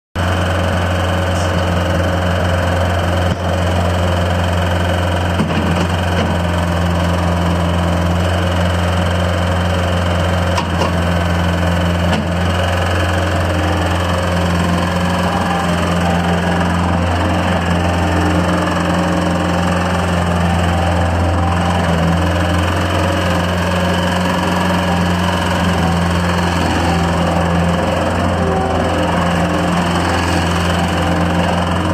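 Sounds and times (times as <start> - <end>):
diesel engine running steadily: 0.2 - 31.9.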